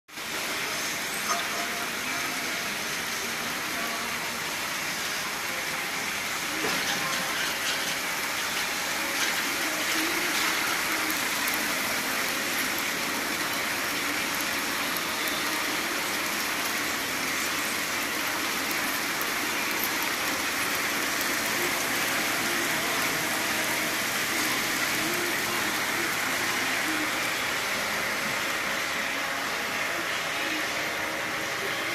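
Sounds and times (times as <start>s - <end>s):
washing machine spraying water: 0.1s - 31.9s.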